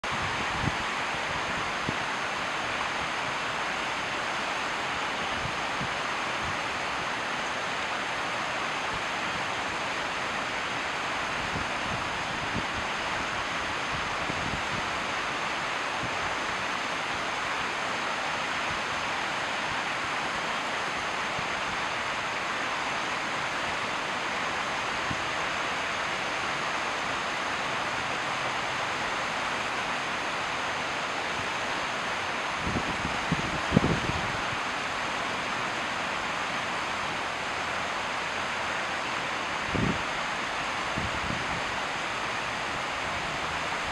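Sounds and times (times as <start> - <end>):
running water: 0.0 - 43.9.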